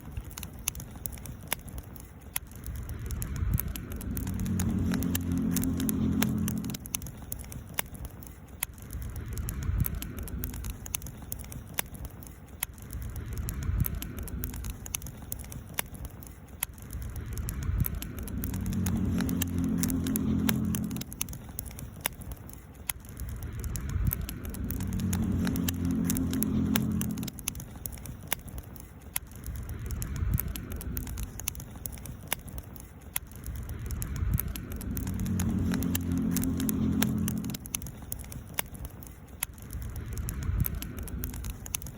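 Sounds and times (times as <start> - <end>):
campfire crackling and popping: 0.0 - 41.9
low rumble: 2.4 - 41.9.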